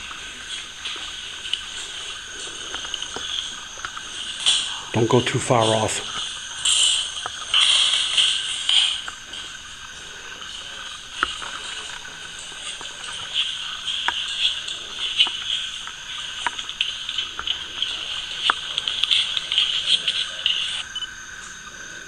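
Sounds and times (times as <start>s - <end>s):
frogs and insects trilling: 0.0s - 22.0s.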